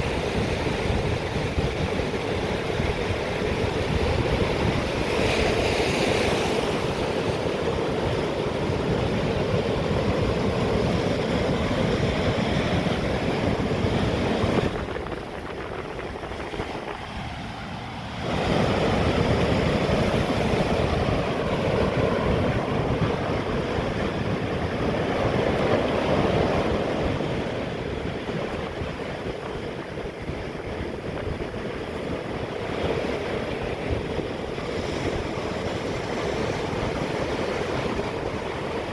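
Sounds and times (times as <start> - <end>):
sea waves breaking on rocks: 0.0 - 38.9.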